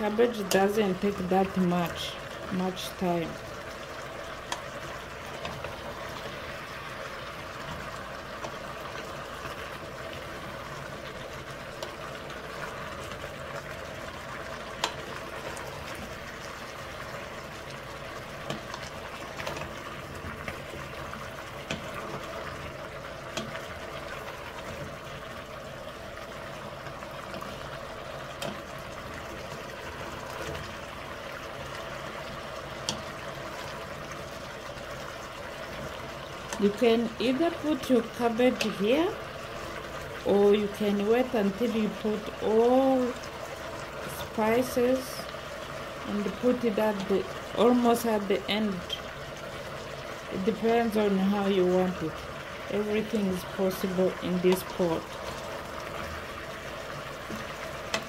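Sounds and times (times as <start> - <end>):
vegetables sizzling in oil: 0.0 - 58.0
oil popping: 0.3 - 51.0, 51.8 - 58.0.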